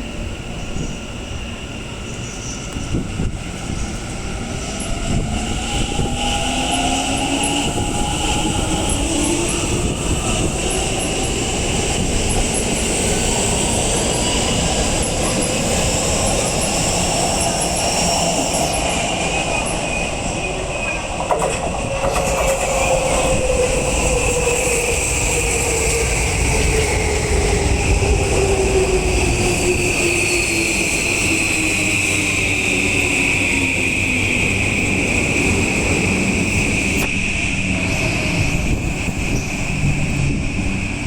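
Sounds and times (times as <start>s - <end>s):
train wheels on rails: 0.1s - 41.0s.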